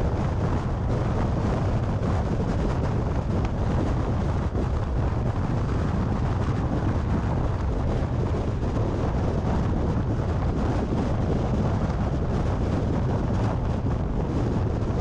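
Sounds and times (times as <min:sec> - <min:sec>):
road noise rumble: 0:00.0 - 0:15.0
wind rushing over microphone: 0:00.0 - 0:15.0.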